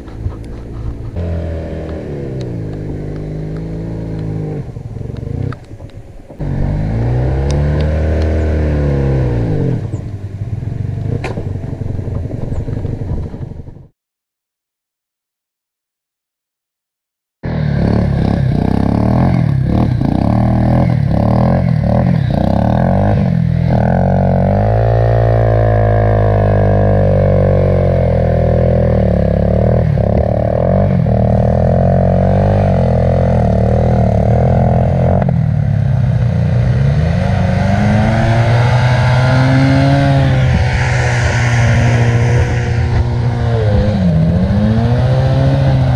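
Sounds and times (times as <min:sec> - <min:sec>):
motorcycle engine revving: 0:00.0 - 0:13.8, 0:17.4 - 0:45.9.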